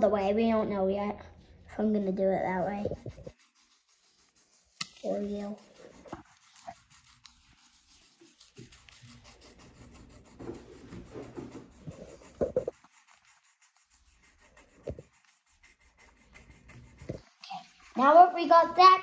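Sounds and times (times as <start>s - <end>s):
pencil scribbling on paper: 0.0s - 19.0s.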